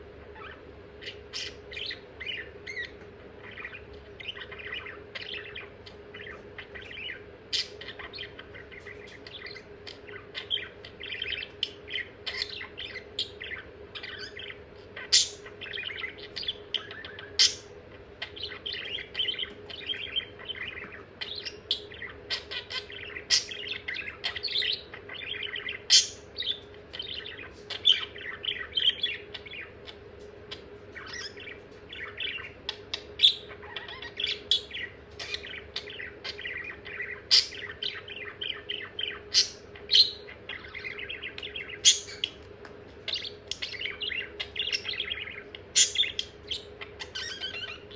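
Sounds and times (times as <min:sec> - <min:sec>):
budgerigar chattering: 0:00.3 - 0:42.4, 0:43.1 - 0:47.9.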